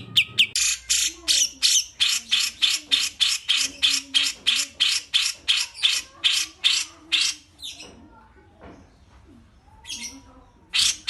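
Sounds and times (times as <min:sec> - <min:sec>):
bird harsh rasping calls: 0:00.0 - 0:07.8, 0:09.8 - 0:11.0.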